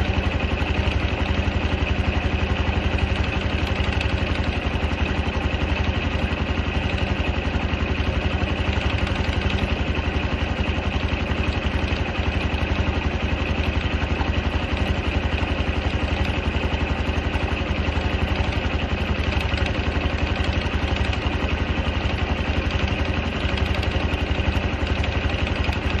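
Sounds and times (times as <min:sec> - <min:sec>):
motorcycle engine idling with clatter: 0:00.0 - 0:26.0.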